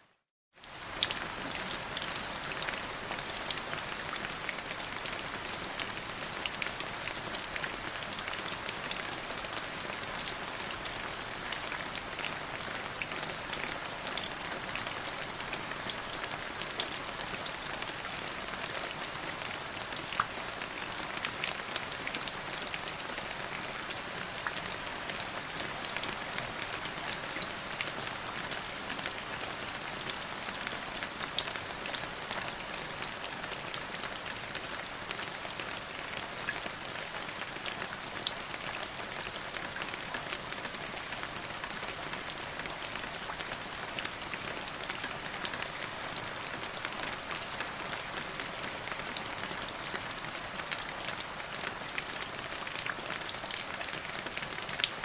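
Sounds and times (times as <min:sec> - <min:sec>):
steady rain falling: 0:00.2 - 0:55.0.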